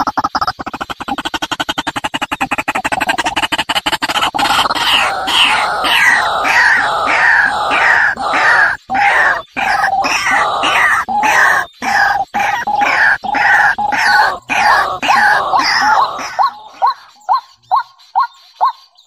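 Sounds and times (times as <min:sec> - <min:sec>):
loud bird calls: 0:00.0 - 0:19.0.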